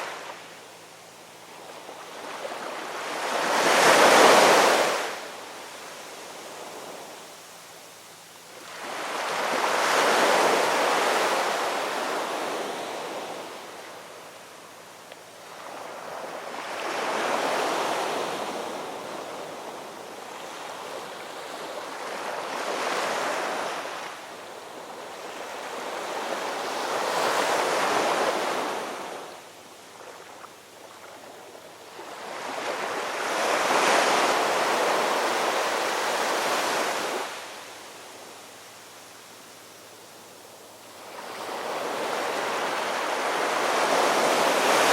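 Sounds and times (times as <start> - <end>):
ocean waves breaking on shore: 0.0 - 0.8, 1.4 - 7.3, 8.5 - 38.6, 40.6 - 44.9.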